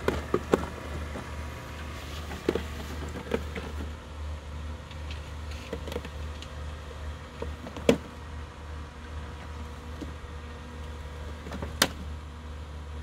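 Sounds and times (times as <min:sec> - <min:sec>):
robotic mower motor hum: 0:00.0 - 0:13.0.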